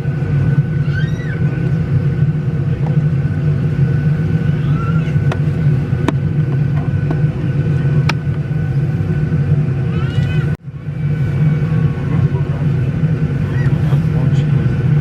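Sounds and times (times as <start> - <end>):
aircraft cabin drone: 0.0 - 15.0.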